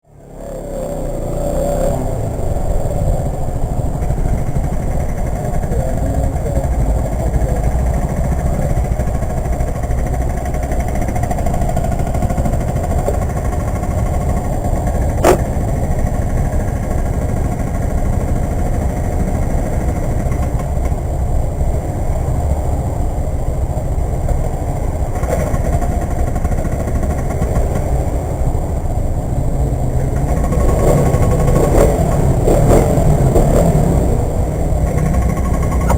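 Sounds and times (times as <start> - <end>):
motorcycle engine rumbling: 0.1 - 35.9.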